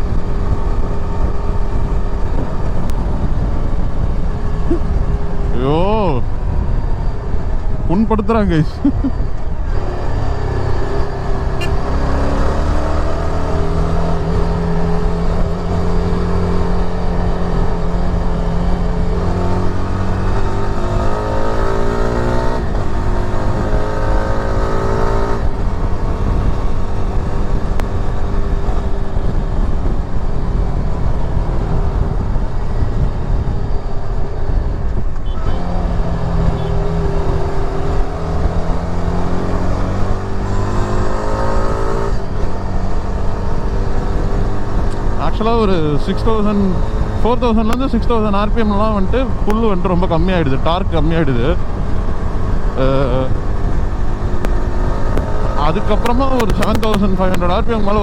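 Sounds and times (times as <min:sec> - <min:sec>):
wind and road noise: 0:00.0 - 0:58.0
motorcycle engine revving: 0:08.8 - 0:58.0.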